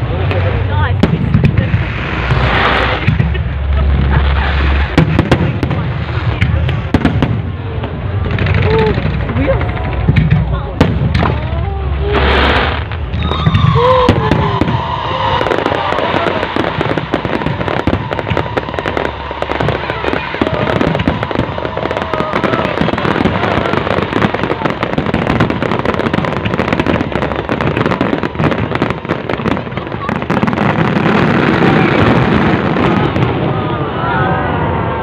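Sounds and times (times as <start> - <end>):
crowd voices: 0.0 - 35.0
fireworks bangs and crackles: 0.0 - 35.0.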